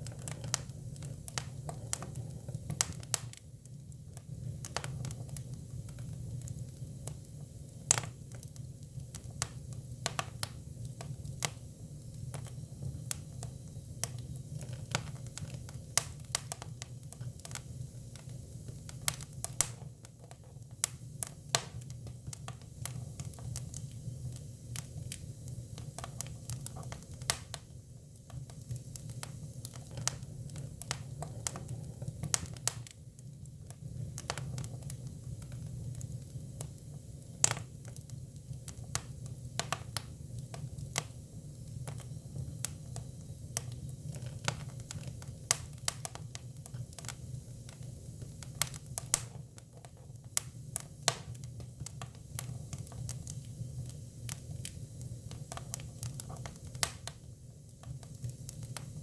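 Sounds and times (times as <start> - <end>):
low fire rumble: 0.0 - 59.0.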